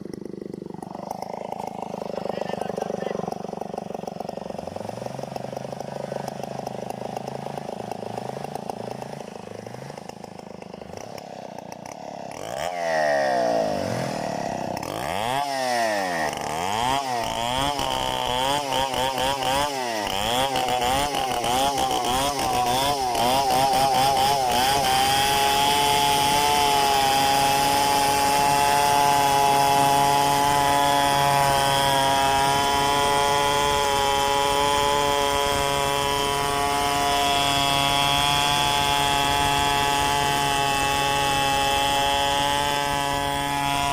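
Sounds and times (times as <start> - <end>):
chainsaw cutting log: 0.0 - 43.9.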